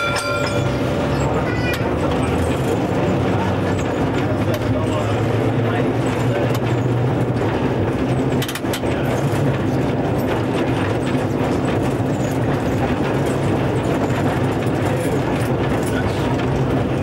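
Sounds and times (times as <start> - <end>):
tram hum and rumble: 0.0 - 17.0
wheels clicking on rails: 0.0 - 17.0.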